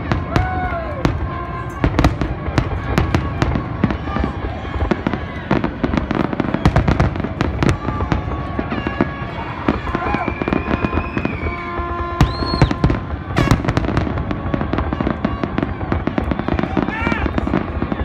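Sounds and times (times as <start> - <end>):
fireworks barrage: 0.0 - 18.0.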